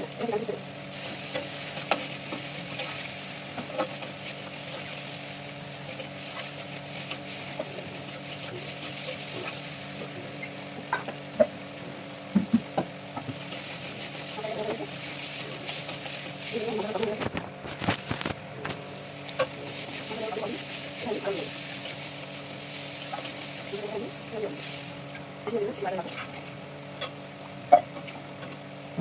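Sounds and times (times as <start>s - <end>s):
food sizzling in oil: 0.0s - 17.4s, 18.0s - 25.3s
steady low hum: 0.0s - 29.0s.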